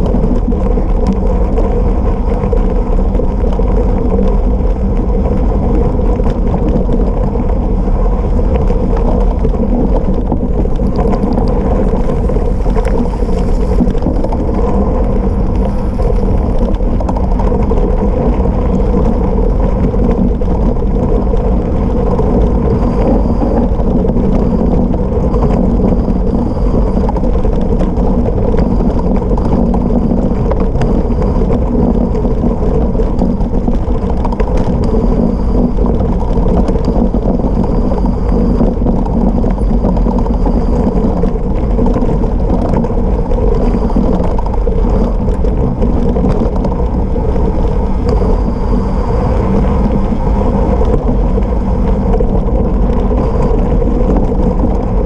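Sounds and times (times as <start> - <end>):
bike rattling: 0.0 - 55.0
bike tyres rumbling on gravel: 0.0 - 55.0
wind buffeting microphone: 0.0 - 55.0.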